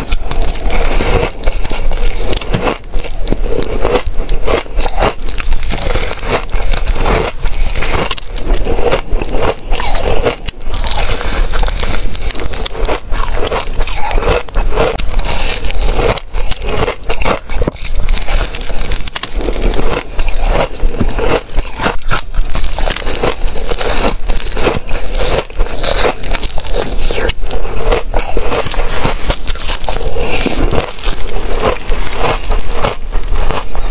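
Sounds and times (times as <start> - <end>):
chewing crunchy frost: 0.0 - 33.9.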